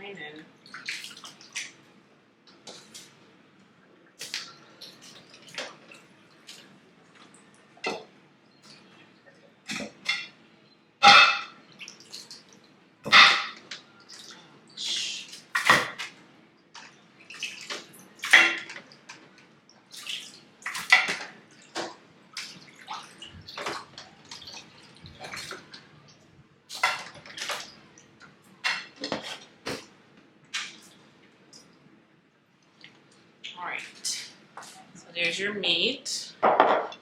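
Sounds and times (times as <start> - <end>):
water splashing and sloshing: 0.1 - 35.4.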